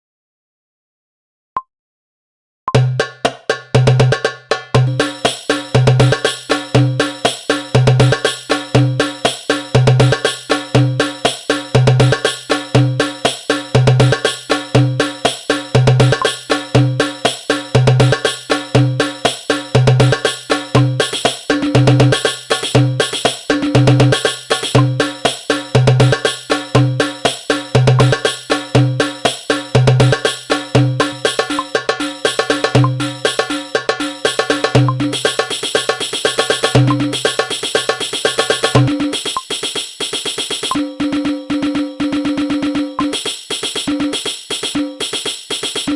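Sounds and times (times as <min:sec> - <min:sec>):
hand drum rhythm: 0:02.8 - 0:45.9.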